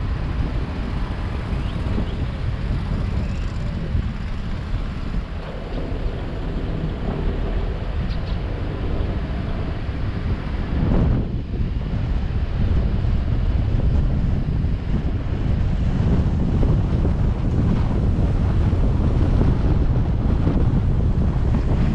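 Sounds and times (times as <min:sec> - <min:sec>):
car driving rumble: 0:00.0 - 0:21.9
wind buffeting microphone: 0:00.0 - 0:21.9.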